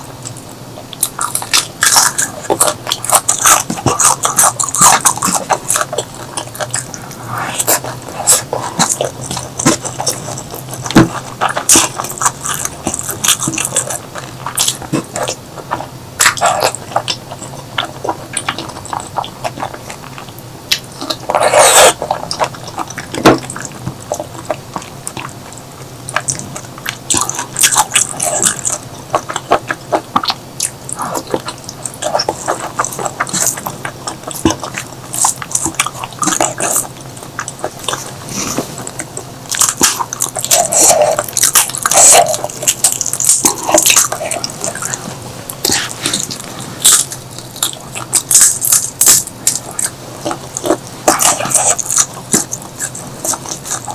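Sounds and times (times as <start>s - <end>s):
person chewing and biting: 0.0s - 53.9s.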